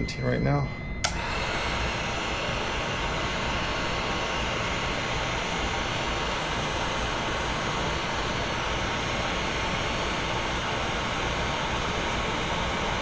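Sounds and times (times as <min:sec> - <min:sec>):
heat gun blowing air: 0:01.1 - 0:13.0.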